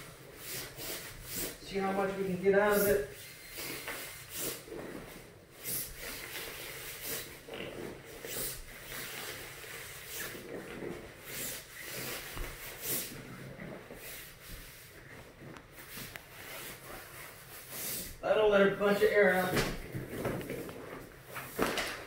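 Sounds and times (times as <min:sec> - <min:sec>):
fabric rustling: 0:00.0 - 0:18.2, 0:18.8 - 0:22.0.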